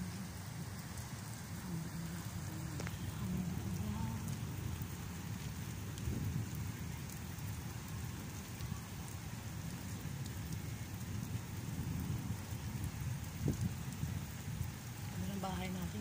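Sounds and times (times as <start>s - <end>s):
rain on paving and rooftops: 0.0s - 16.0s.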